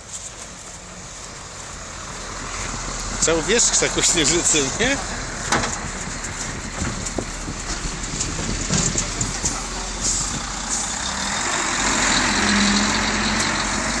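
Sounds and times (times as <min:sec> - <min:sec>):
truck passing: 0:00.0 - 0:14.0.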